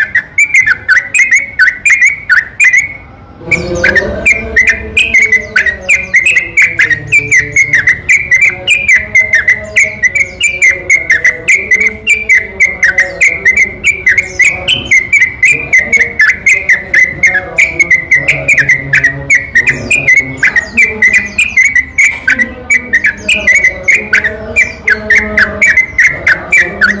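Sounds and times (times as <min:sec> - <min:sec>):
bird whistled chirps: 0:00.0 - 0:27.0.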